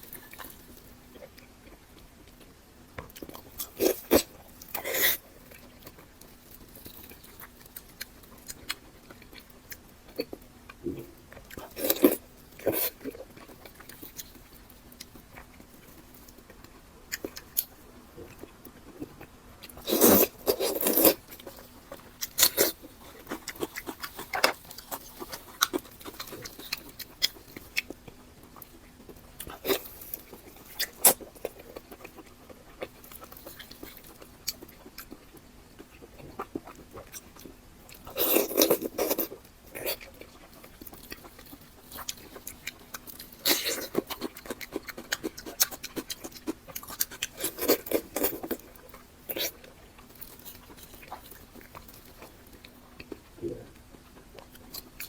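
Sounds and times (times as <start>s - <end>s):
close chewing sounds: 0.0s - 55.0s.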